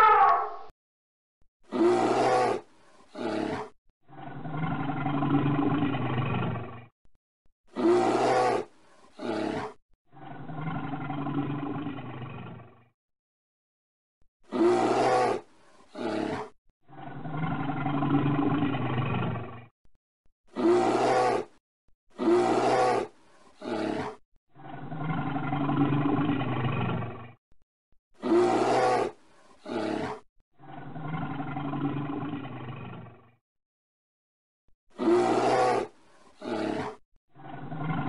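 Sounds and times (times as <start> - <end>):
bear roaring and growling: 1.6 - 6.9, 7.7 - 12.9, 14.4 - 19.7, 20.5 - 27.4, 28.2 - 33.4, 34.9 - 38.0.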